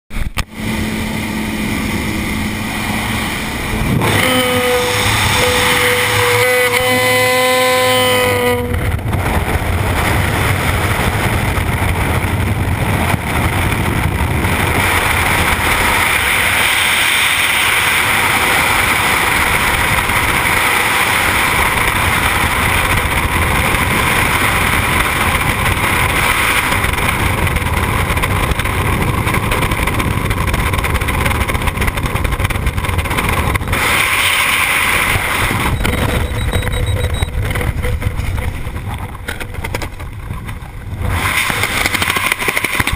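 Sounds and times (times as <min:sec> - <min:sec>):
wind buffeting microphone: 0:00.1 - 0:42.9.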